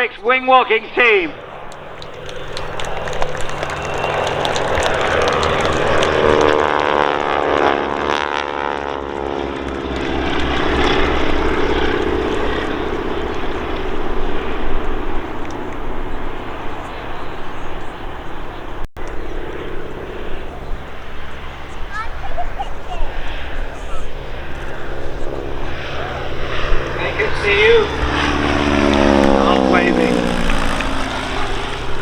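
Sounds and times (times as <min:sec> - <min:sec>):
biplane engine flying past: 0:00.0 - 0:32.0.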